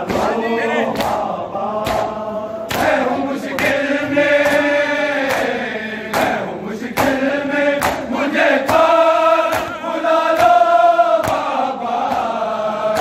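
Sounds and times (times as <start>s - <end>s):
hand-on-chest slaps: 0.0s - 3.8s, 4.4s - 13.0s
men chanting in unison: 0.0s - 13.0s.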